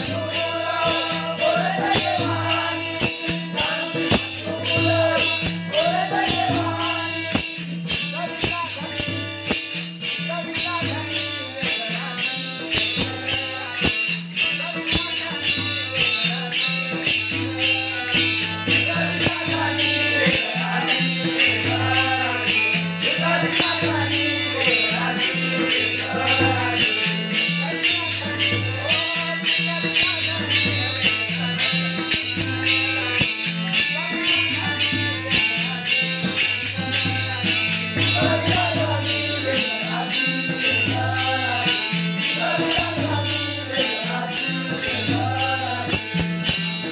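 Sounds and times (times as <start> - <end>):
hand cymbals jingling: 0.0 - 46.9
man singing: 0.0 - 46.9.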